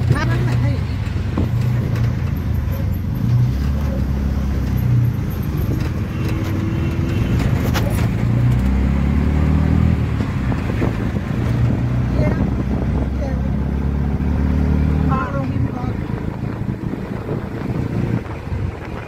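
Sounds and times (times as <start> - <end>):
road and traffic noise: 0.0 - 19.0.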